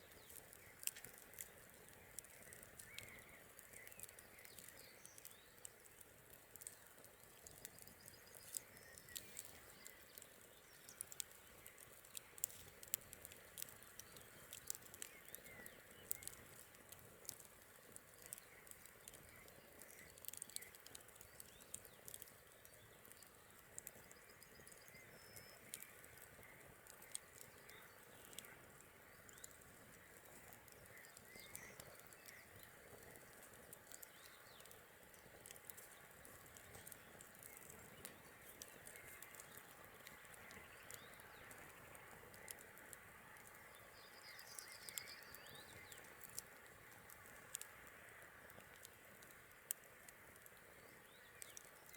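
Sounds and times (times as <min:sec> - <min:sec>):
campfire crackling: 0:00.0 - 0:51.9.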